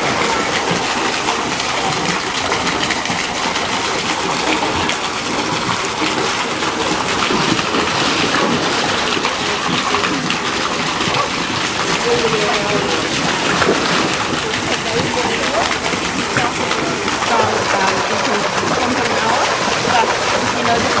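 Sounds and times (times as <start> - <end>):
water jet splashing into pool: 0.0 - 21.0.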